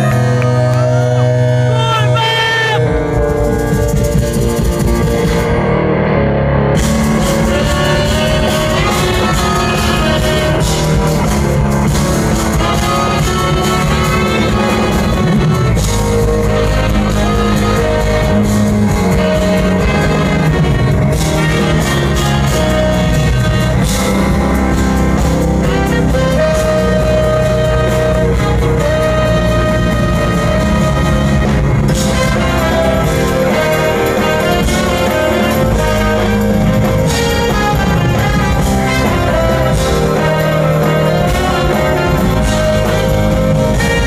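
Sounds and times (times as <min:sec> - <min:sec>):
jazz fusion band playing: 0:00.0 - 0:44.0.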